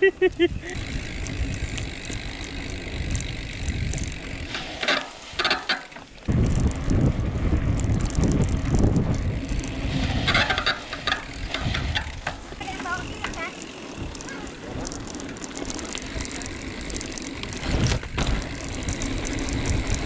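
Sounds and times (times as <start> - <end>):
bike clicking and rattling: 0.0 - 20.0
bike tyres rumbling on dirt: 0.1 - 20.0
wind on microphone: 0.2 - 4.6, 6.3 - 15.1, 16.0 - 20.0.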